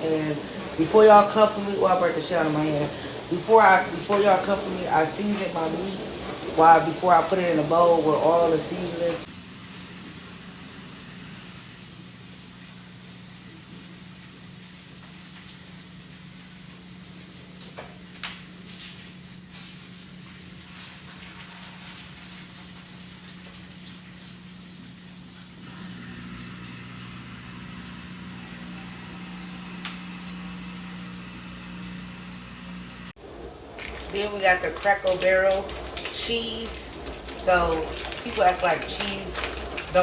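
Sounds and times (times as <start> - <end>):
patties sizzling on a griddle: 0.0 - 33.1
dishwasher humming: 0.0 - 40.0.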